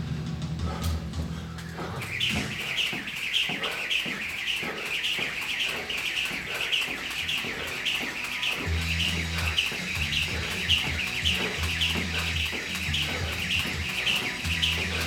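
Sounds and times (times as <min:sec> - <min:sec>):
jump rope squeaking: 0:00.7 - 0:15.0
rope ticks: 0:00.7 - 0:15.0.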